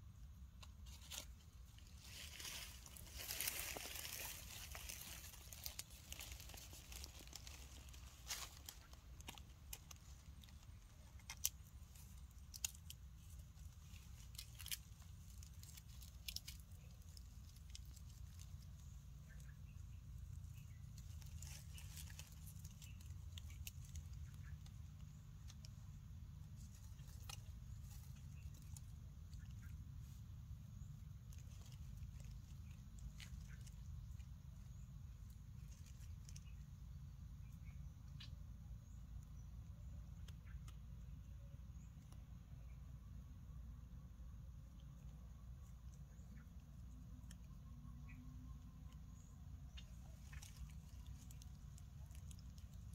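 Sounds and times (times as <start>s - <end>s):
low steady rumble: 0.0s - 52.9s.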